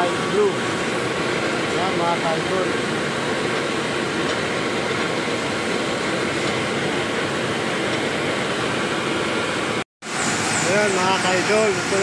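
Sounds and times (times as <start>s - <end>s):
steady machine noise: 0.0s - 12.0s.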